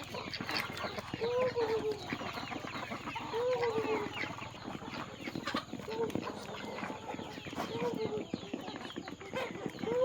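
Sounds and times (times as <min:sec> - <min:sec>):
chickens clucking: 0:00.0 - 0:10.0
drawn-out arched chicken call: 0:00.0 - 0:10.0.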